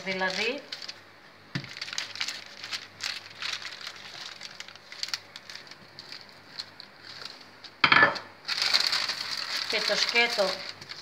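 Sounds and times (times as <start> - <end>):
parchment paper crinkling: 0.0 - 7.8, 8.4 - 11.0.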